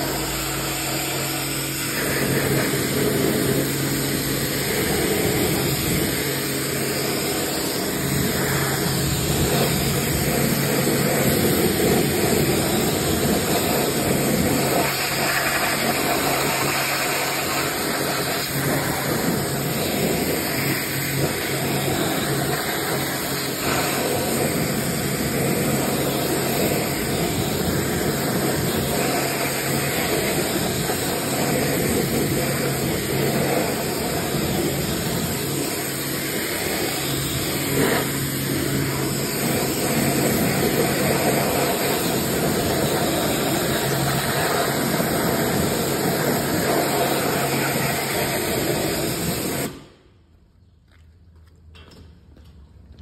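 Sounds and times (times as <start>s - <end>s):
pressure washer spraying water: 0.0s - 49.9s
pump motor hum: 0.0s - 49.9s.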